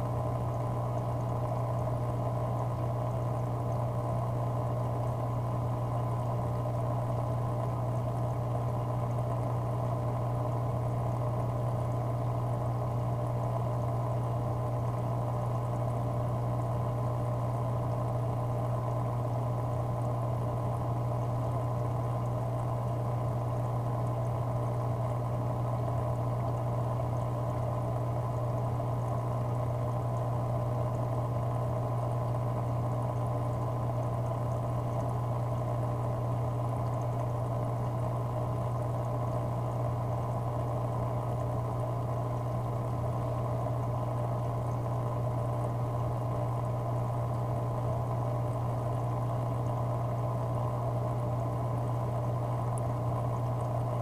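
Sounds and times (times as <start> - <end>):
aquarium filter hum: 0.0 - 54.0.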